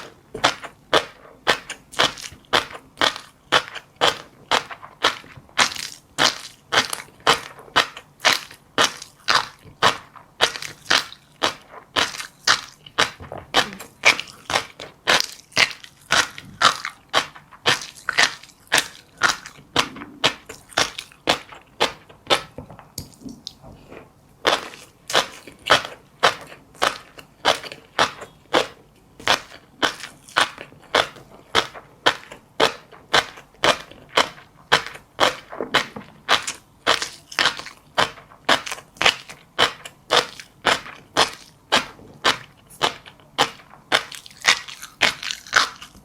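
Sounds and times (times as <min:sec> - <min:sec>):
crunchy seeds being chewed: 0:00.0 - 0:23.6, 0:24.4 - 0:46.0.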